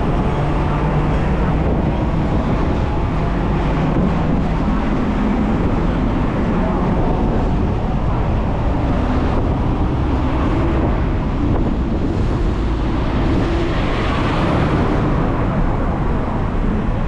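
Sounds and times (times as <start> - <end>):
street traffic: 0.0 - 17.0
tram wheels rumbling on rails: 0.0 - 17.0.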